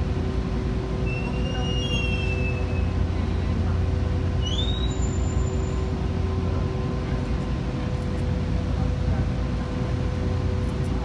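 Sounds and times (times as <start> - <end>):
ferry engine rumbling: 0.0 - 11.0.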